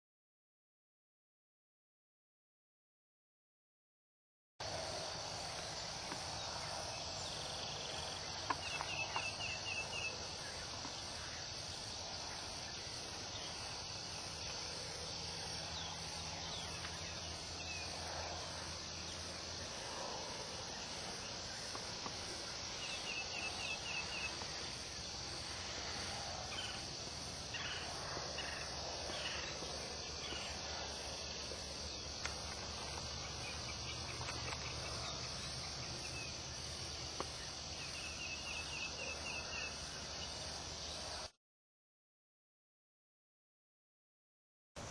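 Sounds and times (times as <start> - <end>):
insect hiss: 4.6 - 41.3.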